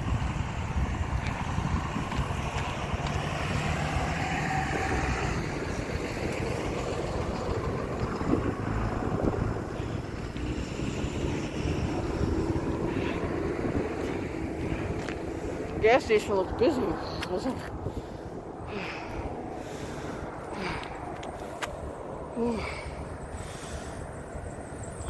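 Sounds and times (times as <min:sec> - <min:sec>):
road traffic passing: 0:00.0 - 0:25.0
wind buffeting microphone: 0:00.0 - 0:25.0.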